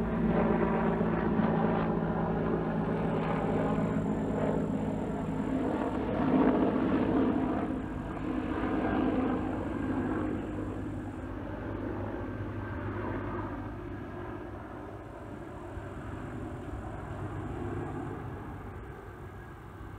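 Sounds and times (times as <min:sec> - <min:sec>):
distant engine droning: 0:00.0 - 0:19.9.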